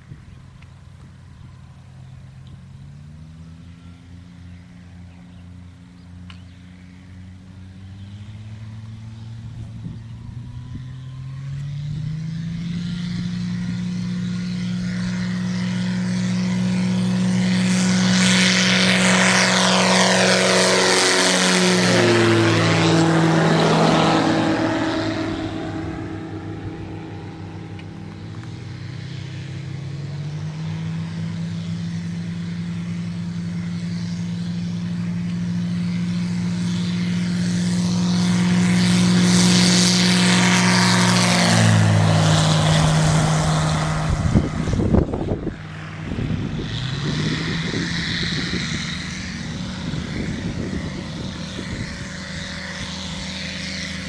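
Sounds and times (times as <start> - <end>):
another aircraft engine running: 0.0 - 54.0
light aircraft engine and propeller: 0.0 - 54.0.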